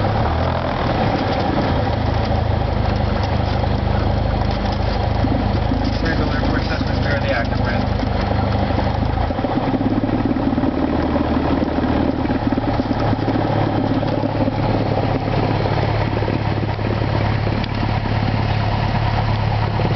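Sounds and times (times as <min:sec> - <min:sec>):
plane engine idling: 0:00.0 - 0:19.9.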